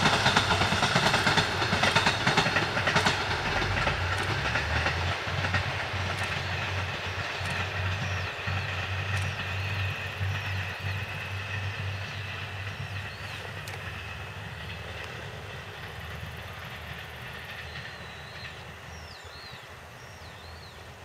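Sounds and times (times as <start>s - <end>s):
diesel train engine drone: 0.0s - 21.0s
rail noise: 0.0s - 21.0s.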